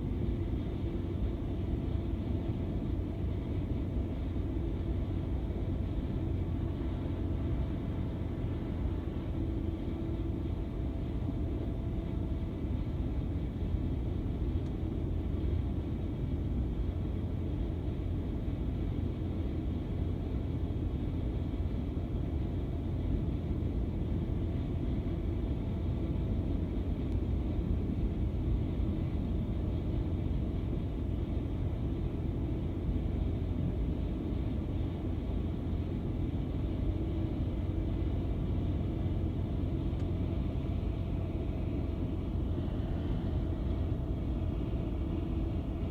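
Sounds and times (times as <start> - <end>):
engine rumble: 0.0 - 45.9
faint steady whine: 0.0 - 45.9.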